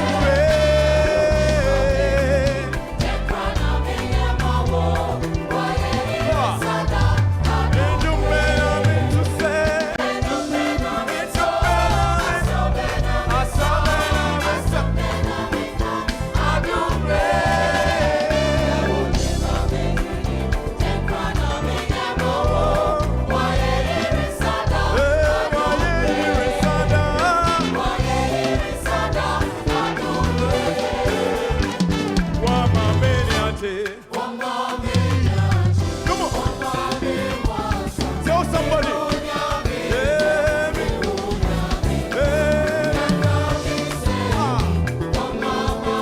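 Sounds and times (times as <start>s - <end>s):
gospel group singing with band: 0.0s - 46.0s.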